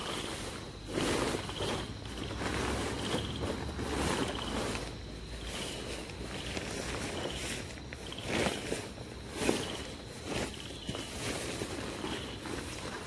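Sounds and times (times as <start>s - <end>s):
nylon tent rustling: 0.0s - 13.0s.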